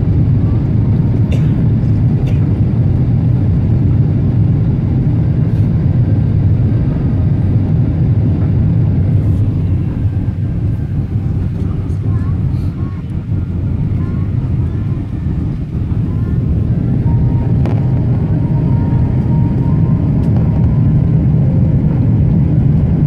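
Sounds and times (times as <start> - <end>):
rushing air: 0.0 - 22.4
jet engines roaring: 0.0 - 23.0.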